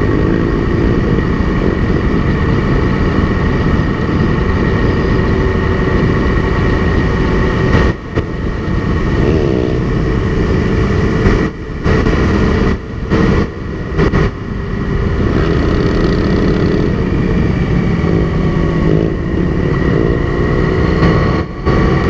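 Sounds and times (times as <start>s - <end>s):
motorcycle engine running: 0.0s - 22.0s
other motorcycles nearby: 0.0s - 22.0s.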